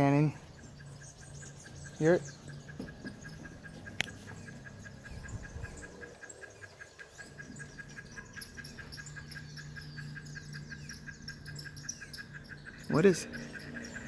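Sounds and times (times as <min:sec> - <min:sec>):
cicada calling: 0:00.0 - 0:14.0
higher chirps: 0:00.6 - 0:14.0.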